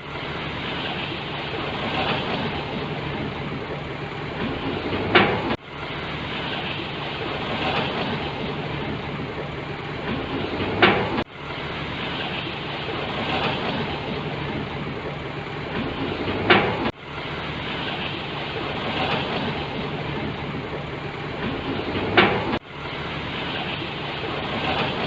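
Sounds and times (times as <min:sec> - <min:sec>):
construction machinery engine hum: 0:00.0 - 0:25.0.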